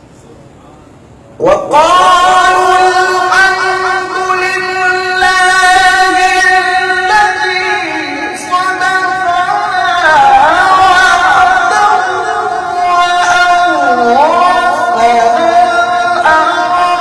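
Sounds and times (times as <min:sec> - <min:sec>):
man reciting melodically: 0:01.4 - 0:17.0.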